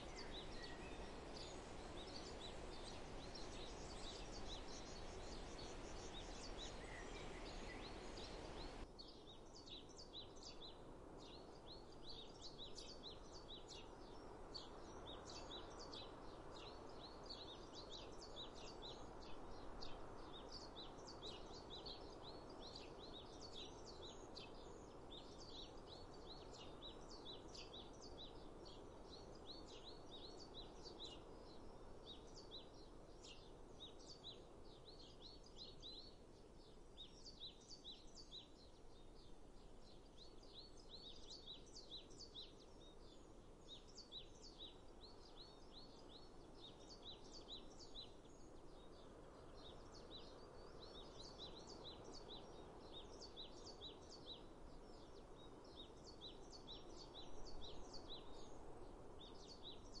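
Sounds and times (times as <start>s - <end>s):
small birds chirping: 0.0s - 60.0s
soft steady background noise: 0.0s - 60.0s.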